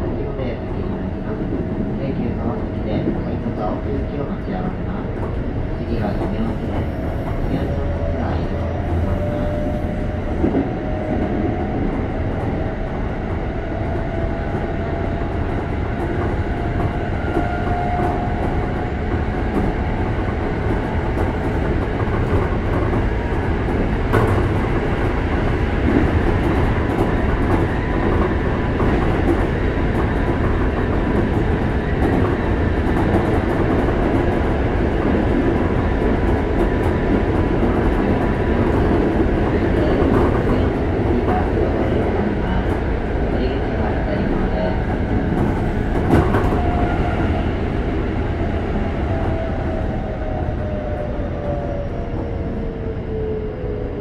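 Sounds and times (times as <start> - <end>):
wheel and rail rumble: 0.0 - 54.0.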